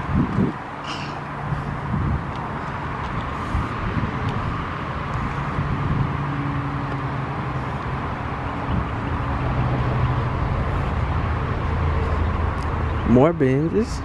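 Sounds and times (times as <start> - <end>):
low engine hum: 0.0 - 14.0
traffic noise: 0.0 - 14.0.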